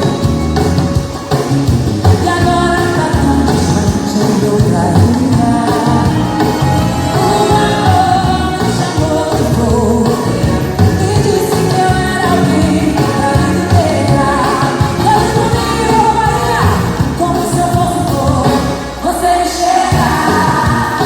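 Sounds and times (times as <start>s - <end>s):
upbeat pop song with singing: 0.0s - 21.0s.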